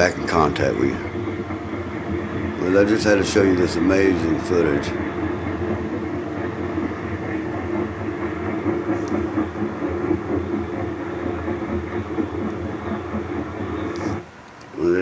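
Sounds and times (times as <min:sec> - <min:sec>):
helicopter rotor and engine rumble: 0:00.0 - 0:15.0.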